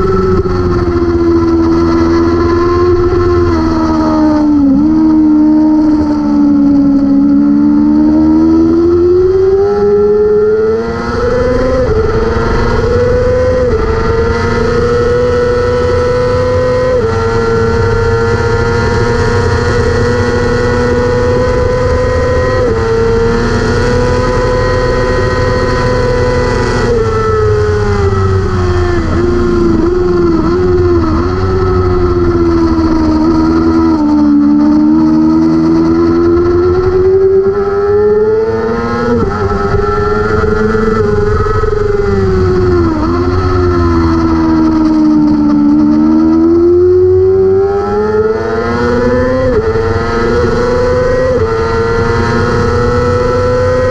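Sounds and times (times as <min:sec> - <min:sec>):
motorcycle engine at high revs: 0:00.0 - 0:53.9.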